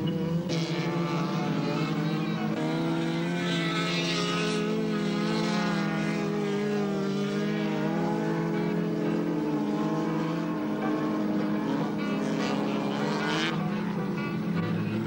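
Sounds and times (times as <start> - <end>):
race car engines running hard: 0.0 - 15.0.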